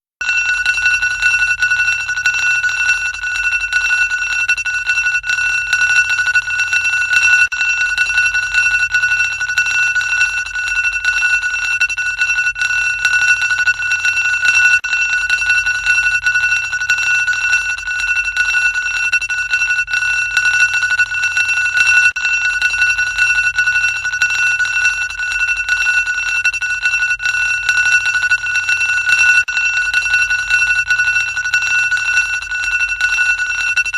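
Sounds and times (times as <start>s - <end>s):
high-pitched electric alarm ringing: 0.2s - 33.9s.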